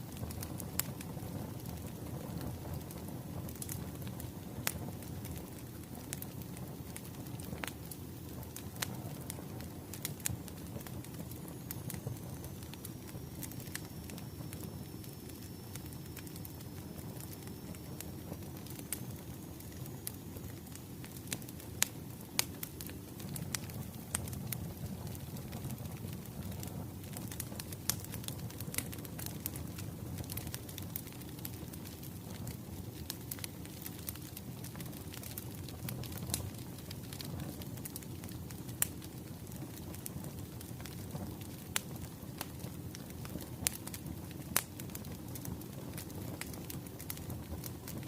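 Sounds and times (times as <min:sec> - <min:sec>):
low rumble of burning logs: 0:00.0 - 0:48.0
wood fire crackling: 0:00.0 - 0:48.0.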